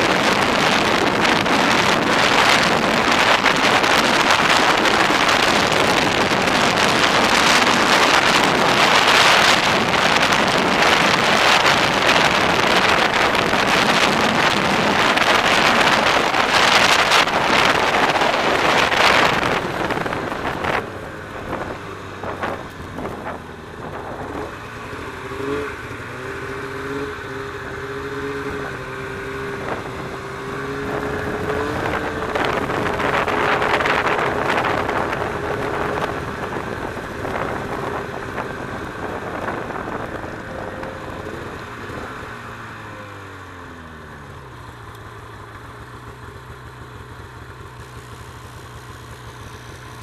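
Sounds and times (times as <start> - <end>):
wind rushing over microphone: 0.0 - 43.3
snowmobile engine running: 0.0 - 50.0.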